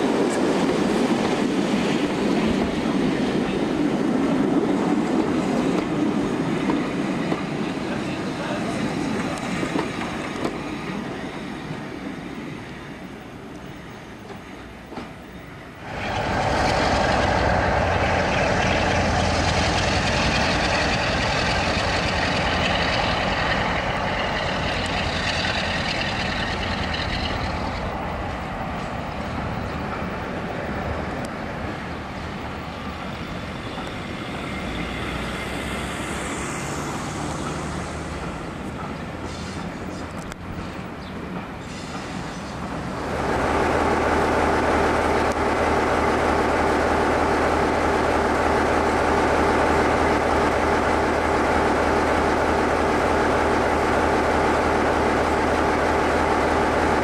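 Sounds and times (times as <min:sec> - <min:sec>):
diesel locomotive engine: 0:00.0 - 0:57.0
train coaches rumbling: 0:00.0 - 0:57.0.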